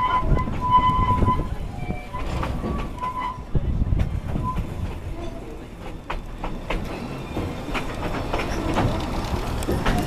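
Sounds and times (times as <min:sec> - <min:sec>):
train car rumbling: 0:00.0 - 0:10.0
wheels clanking over rails: 0:00.0 - 0:10.0.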